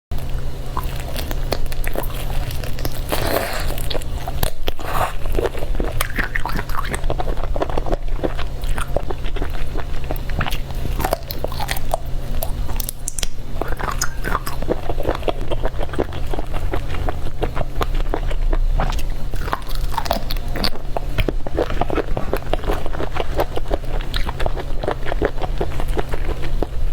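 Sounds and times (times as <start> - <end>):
low steady hum: 0.1 - 26.9
wet chewing and crunching: 0.1 - 26.9.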